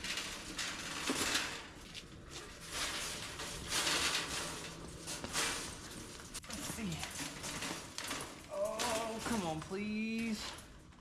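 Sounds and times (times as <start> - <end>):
bird cage scraping and rattling: 0.0 - 9.7.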